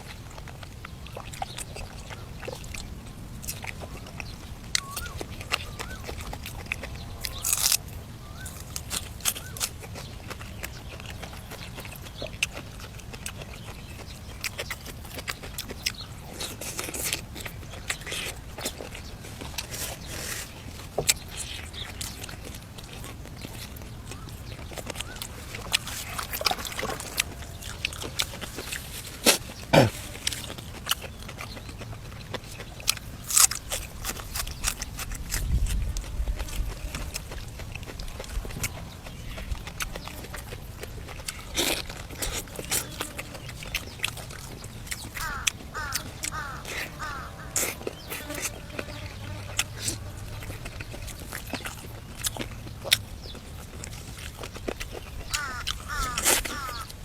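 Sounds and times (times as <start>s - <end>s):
clicks while eating: 0.0s - 57.0s
person chewing with wet smacking: 0.0s - 57.0s.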